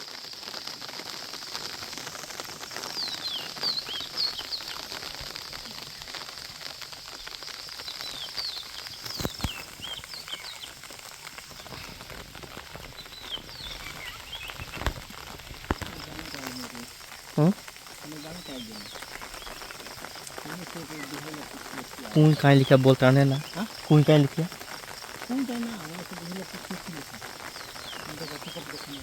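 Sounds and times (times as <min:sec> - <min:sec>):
rain hissing: 0:00.0 - 0:29.0
birds chirping: 0:02.6 - 0:29.0.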